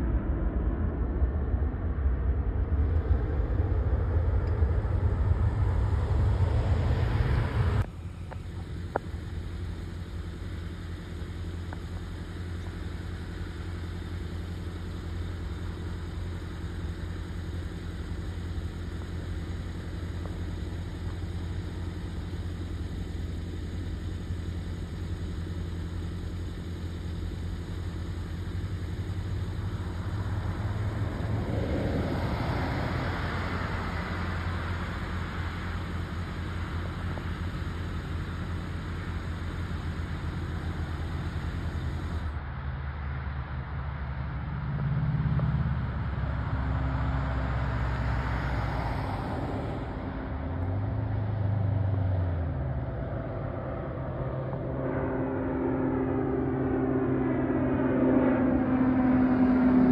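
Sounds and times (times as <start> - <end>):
turboprop engine drone: 0.0 - 59.9.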